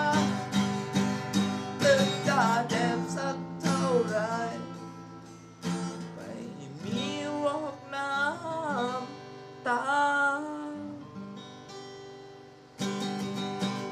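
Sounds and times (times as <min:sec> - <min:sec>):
acoustic guitar strummed: 0:00.0 - 0:13.9.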